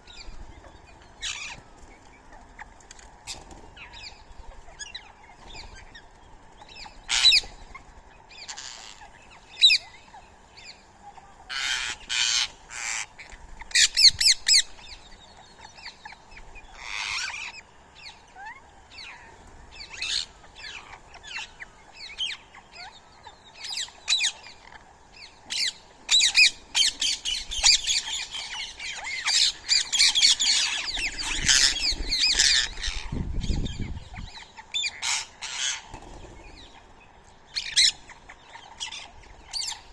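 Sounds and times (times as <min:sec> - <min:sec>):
birds squawking and chirping: 0:00.0 - 0:39.9.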